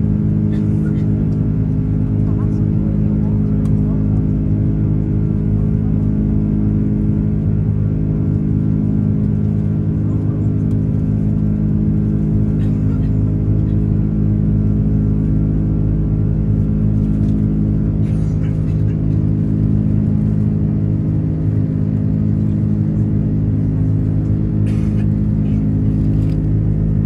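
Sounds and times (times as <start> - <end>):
jet engine cabin drone: 0.0 - 27.0.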